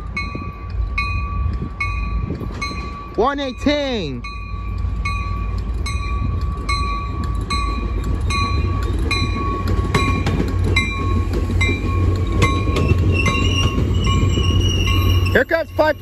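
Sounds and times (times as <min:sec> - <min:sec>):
passenger train rumbling past: 0:00.0 - 0:16.0
train wheel clicks: 0:00.0 - 0:16.0.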